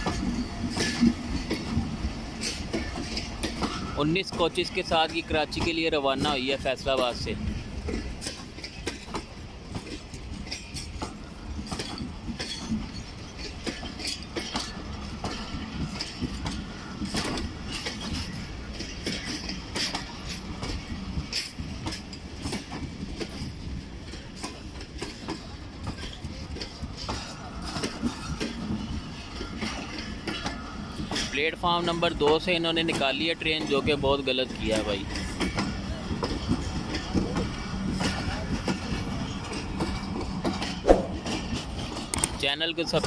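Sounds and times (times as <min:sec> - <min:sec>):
train rumble: 0:00.0 - 0:43.0
train wheels clattering over rail joints: 0:00.0 - 0:43.0.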